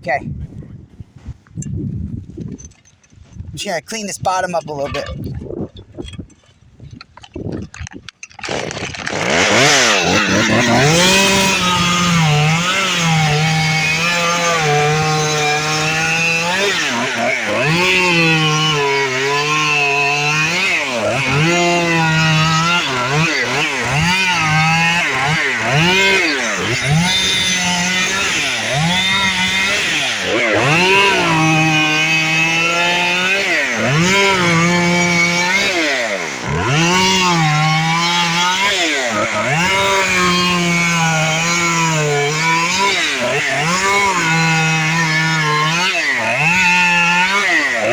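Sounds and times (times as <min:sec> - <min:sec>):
chainsaw revving: 0:07.2 - 0:47.9.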